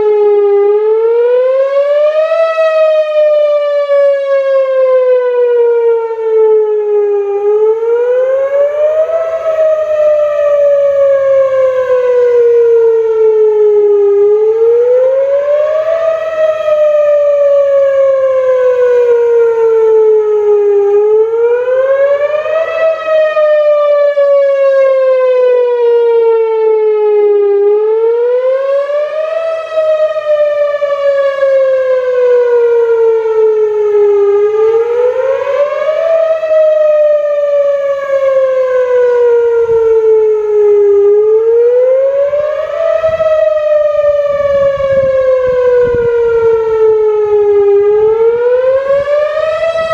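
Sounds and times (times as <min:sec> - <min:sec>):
outdoor warning siren wailing: 0:00.0 - 0:49.9.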